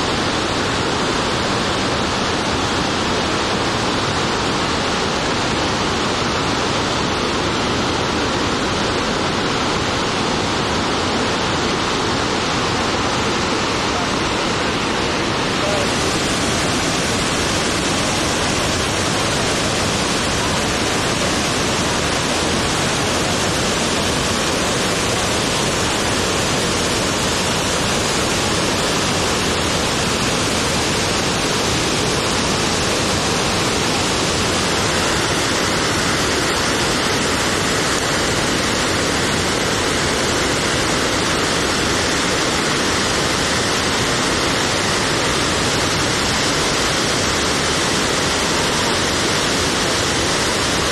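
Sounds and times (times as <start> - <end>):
rush of falling water: 0.0 - 50.9.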